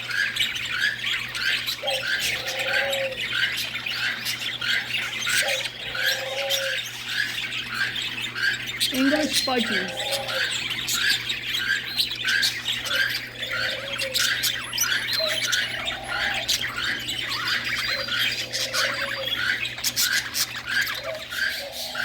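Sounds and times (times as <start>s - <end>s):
budgies chattering and squawking: 0.0s - 22.0s
small cage birds calling: 0.0s - 22.0s.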